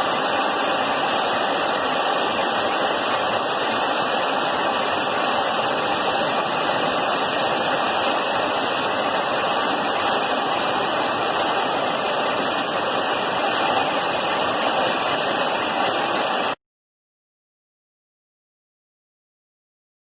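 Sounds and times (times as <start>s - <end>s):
jet engine rushing: 0.0s - 16.6s.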